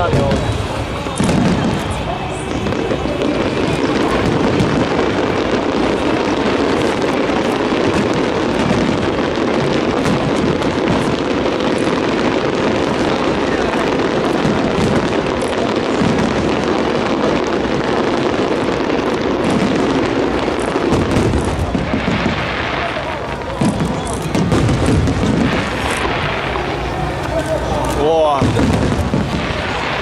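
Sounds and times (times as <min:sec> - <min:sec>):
crowd voices: 0:00.0 - 0:30.0
fireworks bangs and crackling: 0:00.0 - 0:30.0.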